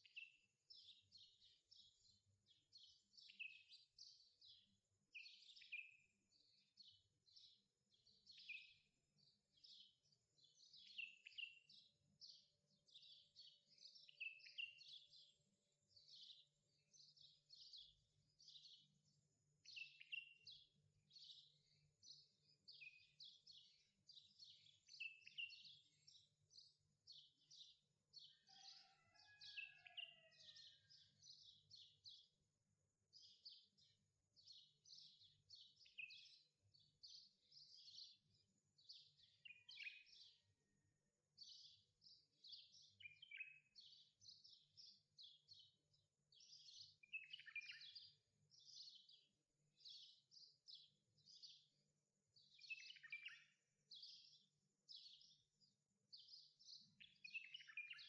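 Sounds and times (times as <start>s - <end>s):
faint birds chirping: 0.0s - 58.0s.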